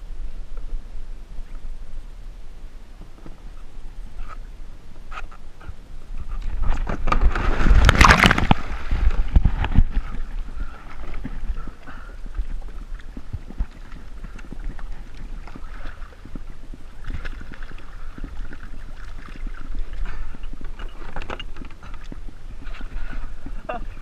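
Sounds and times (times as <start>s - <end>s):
wind on microphone: 0.0s - 24.0s
water splashing against kayak hull: 2.9s - 24.0s.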